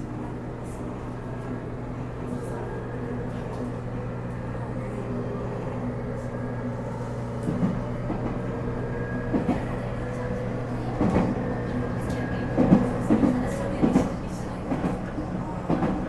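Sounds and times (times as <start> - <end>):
electric train traction hum: 0.0 - 16.0.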